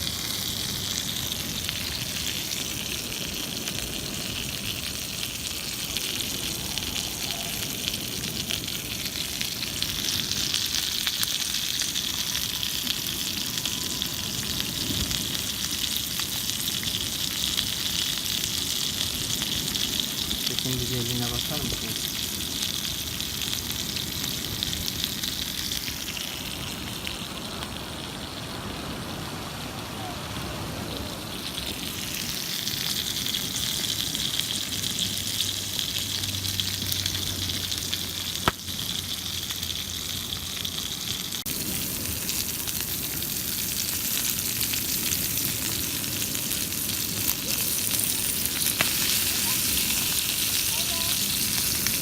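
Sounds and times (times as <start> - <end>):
chicken wings sizzling in oil: 0.0 - 52.0.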